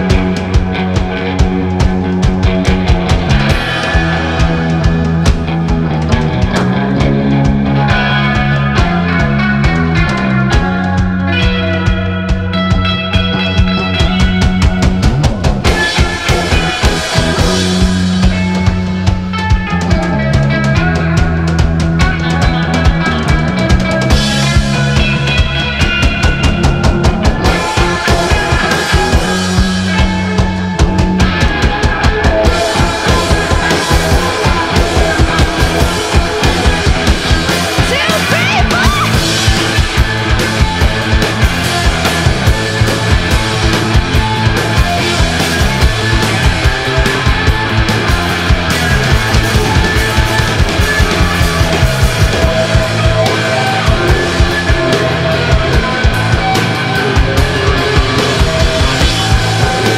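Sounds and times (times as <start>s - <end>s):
drum kit fast beat: 0.0s - 59.9s
guitar: 0.0s - 59.9s
rock band playing live: 0.0s - 59.9s.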